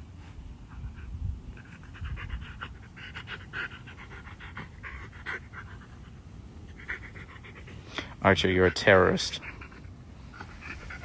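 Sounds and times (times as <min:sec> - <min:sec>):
dog panting: 0:00.6 - 0:11.0.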